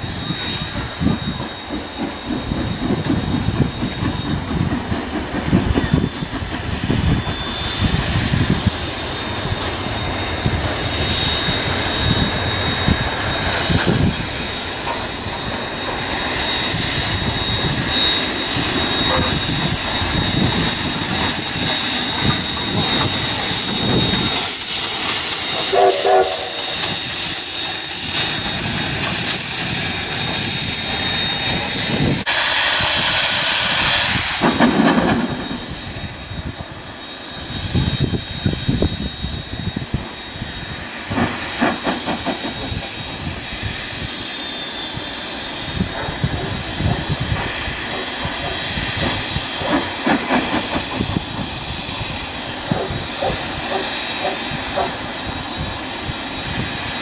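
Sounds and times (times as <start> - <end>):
rush of steam: 0.0 - 57.0
steam locomotive exhaust beats: 0.0 - 57.0.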